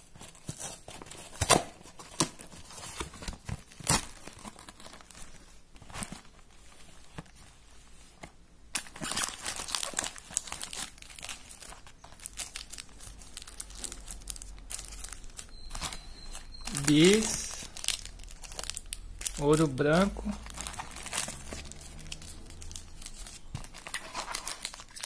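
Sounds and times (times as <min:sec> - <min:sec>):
wrappers crinkling: 0:00.1 - 0:07.4, 0:08.7 - 0:25.0.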